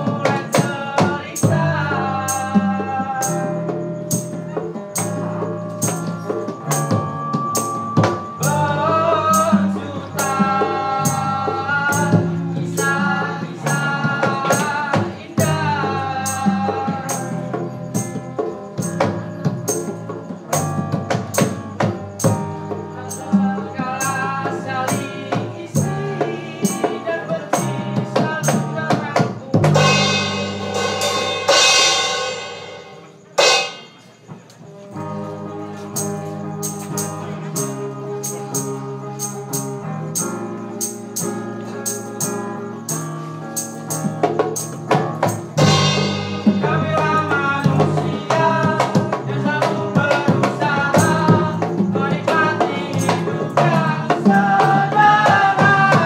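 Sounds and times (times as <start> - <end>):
live music with percussion beat: 0.0 - 56.0.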